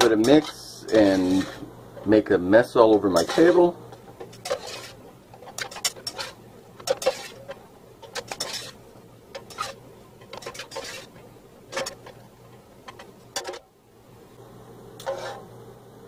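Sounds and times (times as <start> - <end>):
metal utensils scraping a skillet: 0.0 - 2.2, 2.8 - 13.6, 15.0 - 15.5.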